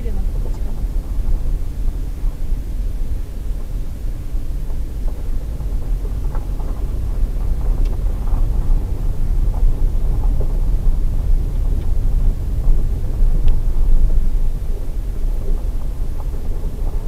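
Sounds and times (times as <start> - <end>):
car driving on gravel: 0.0 - 17.0.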